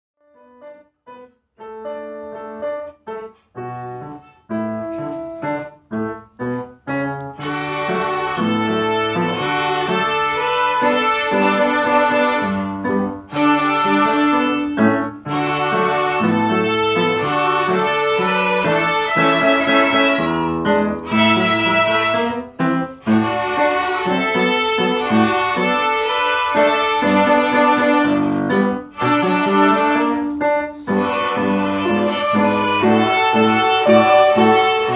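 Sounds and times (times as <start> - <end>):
instrumental background music: 0.4 - 34.9.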